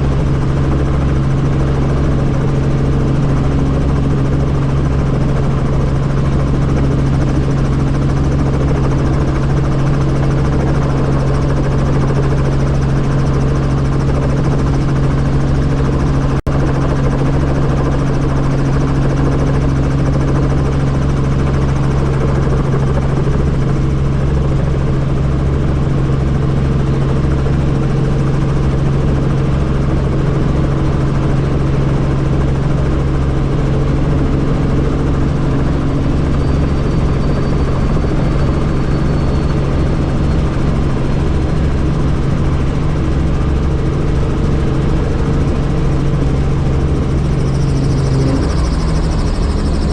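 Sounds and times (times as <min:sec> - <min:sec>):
helicopter turbine and rotor drone: 0:00.0 - 0:49.9.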